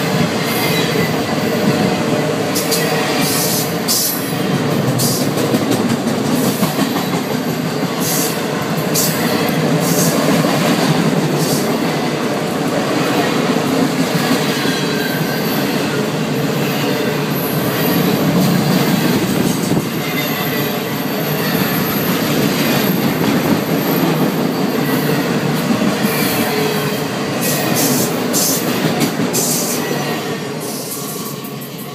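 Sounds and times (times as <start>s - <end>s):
freight train wheels on rails: 0.0s - 31.9s.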